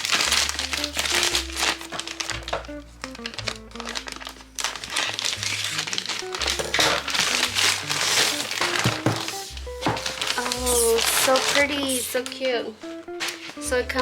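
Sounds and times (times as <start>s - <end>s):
package crinkling and rustling: 0.0s - 12.5s, 13.2s - 13.6s
background music with bass notes: 0.0s - 14.0s.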